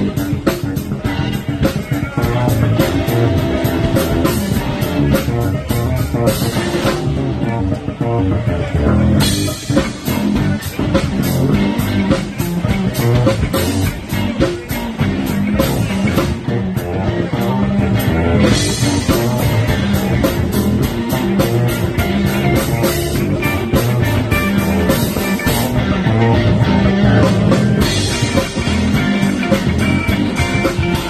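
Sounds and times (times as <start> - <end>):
electric bass guitar solo: 0.0 - 31.0
rock drum beat: 0.0 - 31.0.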